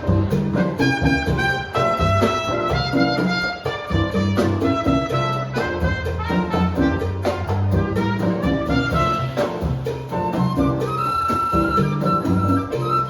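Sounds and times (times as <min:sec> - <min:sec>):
bass line: 0:00.0 - 0:13.0
brass melody: 0:00.0 - 0:13.0
hand percussion: 0:00.0 - 0:13.0.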